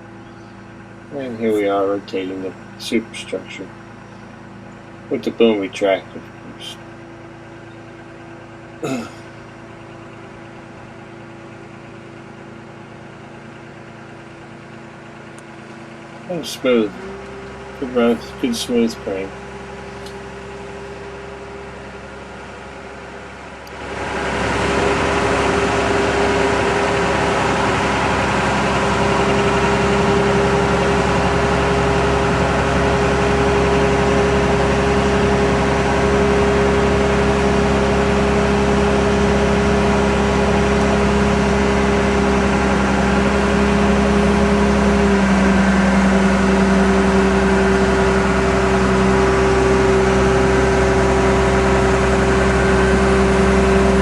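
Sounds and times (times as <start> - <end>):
crane diesel engine and hydraulics: 0.0 - 54.0.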